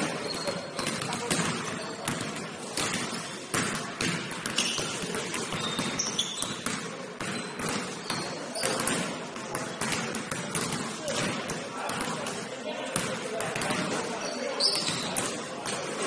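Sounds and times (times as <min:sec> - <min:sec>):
sneakers squeaking on floor: 0:00.0 - 0:11.1, 0:13.0 - 0:16.0
basketball bouncing on court: 0:00.0 - 0:12.4, 0:13.0 - 0:13.9.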